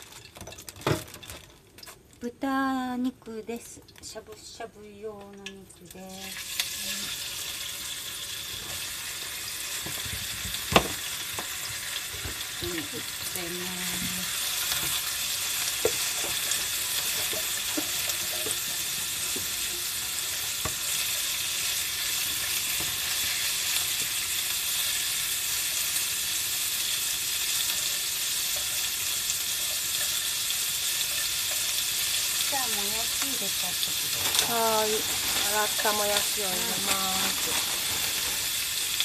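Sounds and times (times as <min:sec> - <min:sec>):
meat sizzling in a frying pan: 0:00.0 - 0:02.0, 0:05.8 - 0:39.0.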